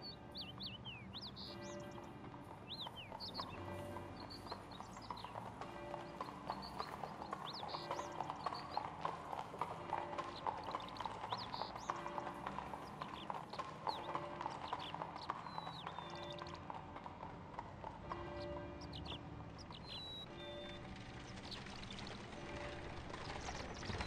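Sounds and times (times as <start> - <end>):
birds chirping: 0.0 - 24.0
horse hooves clip-clopping: 0.0 - 24.0.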